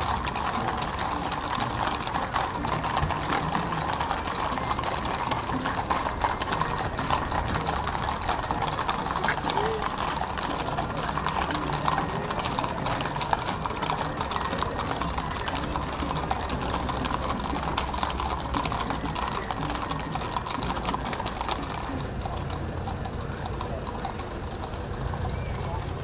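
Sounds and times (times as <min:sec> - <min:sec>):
horse hooves clattering on road: 0:00.0 - 0:26.0.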